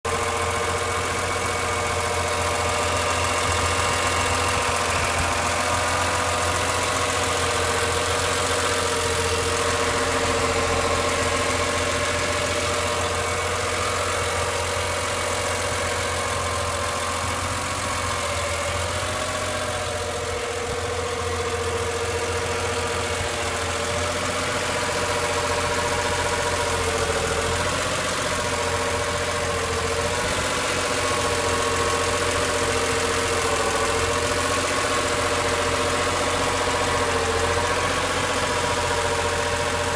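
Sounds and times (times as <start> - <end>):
car engine idling: 0.0 - 39.9
whirring whine from engine bay: 0.1 - 39.9.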